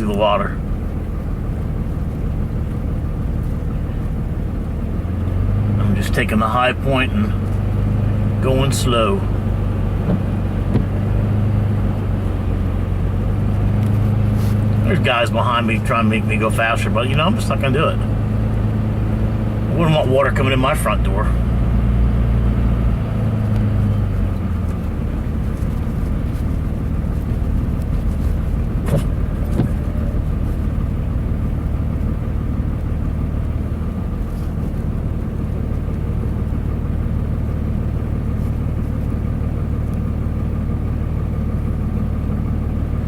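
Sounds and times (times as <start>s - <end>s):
road noise: 0.0s - 43.0s
truck engine drone: 0.0s - 43.0s.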